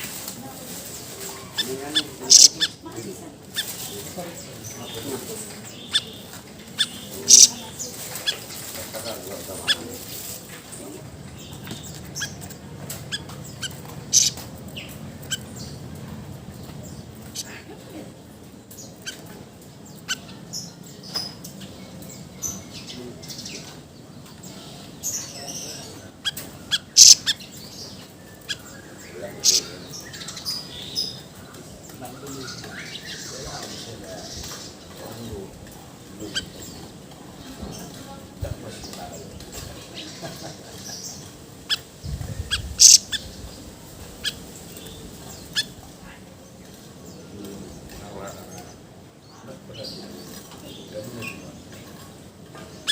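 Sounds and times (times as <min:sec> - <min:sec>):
songbird chirping: 0:00.0 - 0:52.9.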